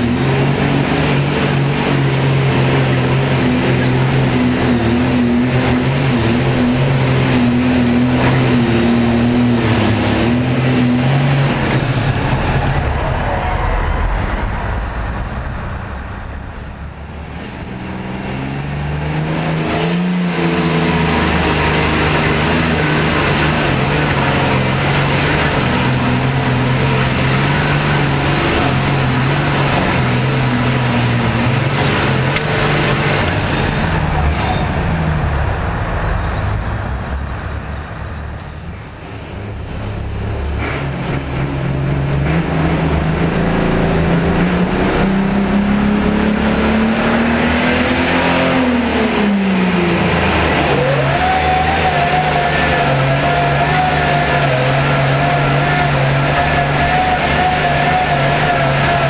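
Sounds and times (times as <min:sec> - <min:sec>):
pulling tractor engine: 0:00.0 - 0:59.0.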